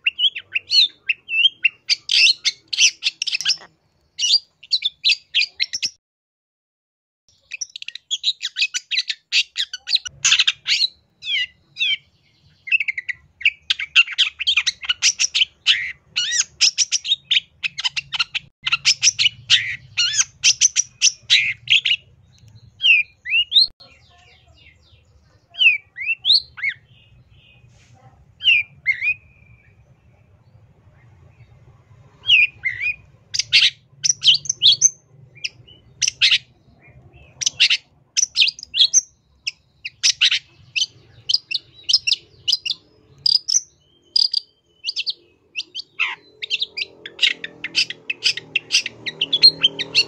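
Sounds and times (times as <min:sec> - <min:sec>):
bird singing: 0:00.0 - 0:06.0, 0:07.3 - 0:27.7, 0:28.4 - 0:50.0.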